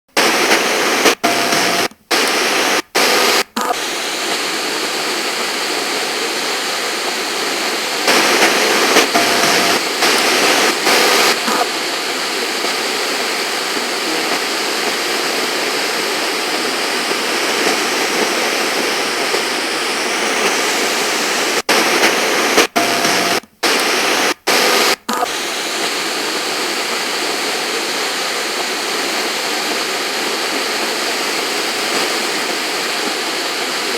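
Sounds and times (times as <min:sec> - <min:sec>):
radio static hissing: 0:00.1 - 0:33.9.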